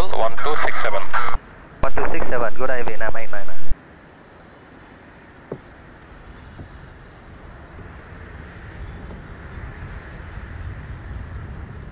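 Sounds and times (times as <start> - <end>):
jet engines rumbling: 0.0 - 3.8, 4.8 - 11.9.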